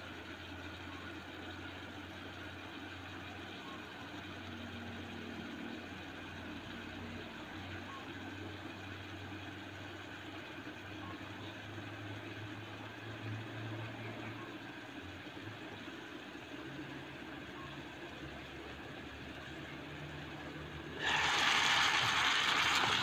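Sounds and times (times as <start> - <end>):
vegetables simmering in skillet: 0.1 - 23.0.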